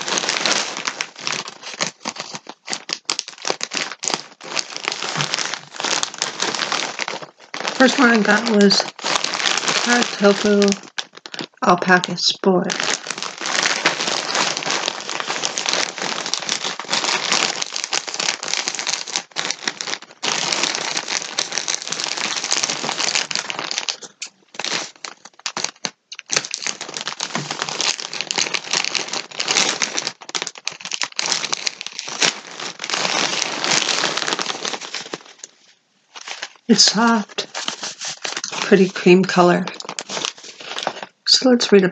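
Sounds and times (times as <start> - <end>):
plastic packaging crinkling: 0.0 - 41.6.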